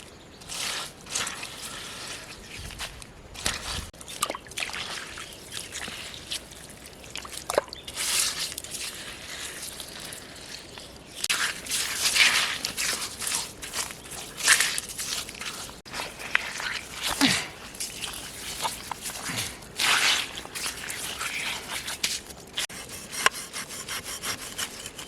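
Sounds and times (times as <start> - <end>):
water sloshing and dripping: 0.0 - 22.7
wet squishing handling sounds: 0.4 - 22.7.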